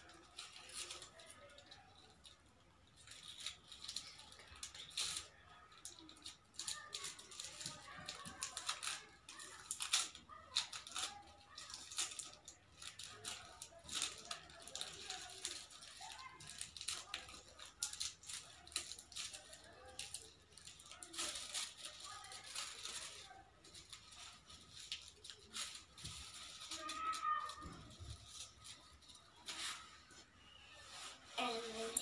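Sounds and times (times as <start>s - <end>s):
paper and tape crinkling: 0.0s - 32.0s.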